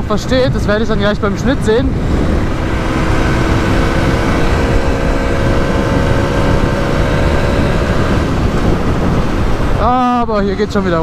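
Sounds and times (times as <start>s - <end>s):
motorcycle engine running: 0.0s - 10.3s
wind rumble on microphone: 0.0s - 11.0s.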